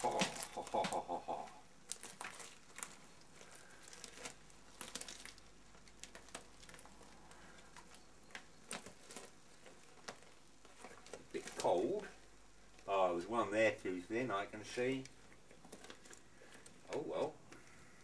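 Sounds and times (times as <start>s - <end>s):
rubber sheet peeling crackles: 0.0s - 12.9s, 14.6s - 17.8s.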